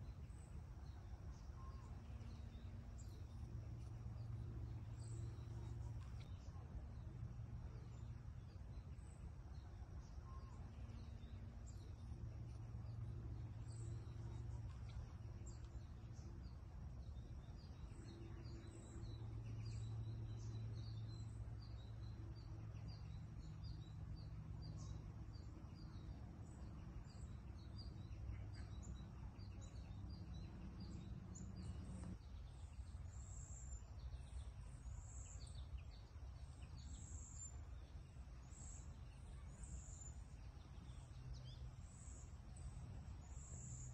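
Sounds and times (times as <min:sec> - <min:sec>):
low background rumble: 0:00.0 - 0:43.9.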